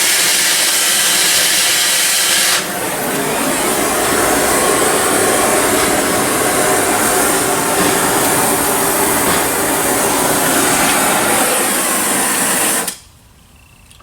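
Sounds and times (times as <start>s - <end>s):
gas torch flame hissing: 0.0s - 13.1s.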